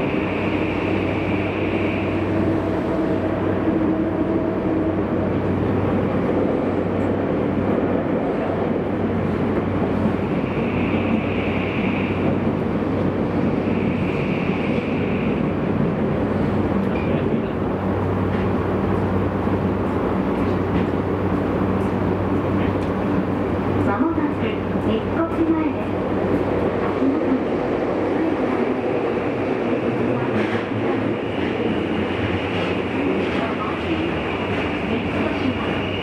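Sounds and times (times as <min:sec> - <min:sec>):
train wheels and motors rumbling: 0:00.0 - 0:36.0.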